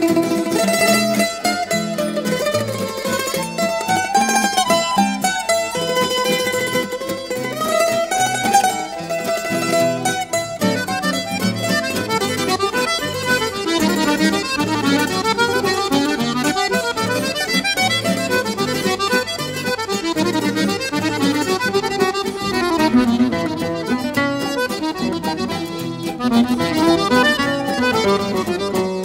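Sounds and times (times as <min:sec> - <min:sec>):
accordion tune: 0:00.0 - 0:29.0.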